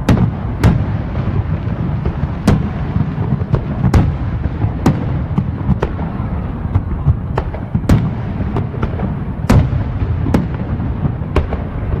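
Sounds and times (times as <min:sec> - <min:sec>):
fireworks rumble of bangs: 0:00.0 - 0:12.0
sharp firework cracks: 0:00.0 - 0:12.0.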